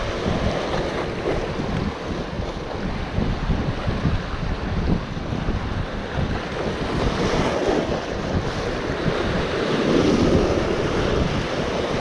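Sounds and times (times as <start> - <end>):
waves breaking on rocky shore: 0.0 - 12.0
wind buffeting microphone: 0.0 - 12.0.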